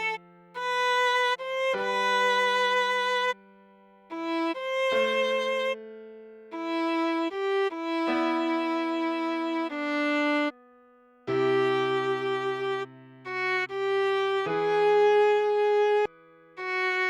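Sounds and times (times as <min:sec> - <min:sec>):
viola playing slow melody: 0:00.0 - 0:17.0.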